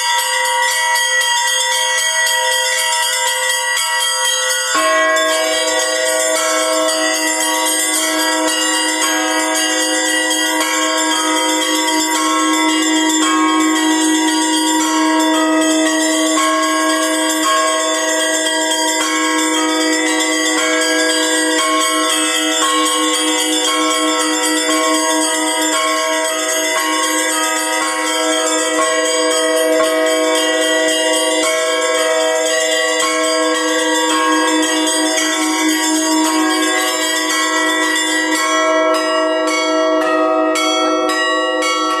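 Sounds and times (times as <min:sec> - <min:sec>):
church bells ringing: 0:00.0 - 0:42.0.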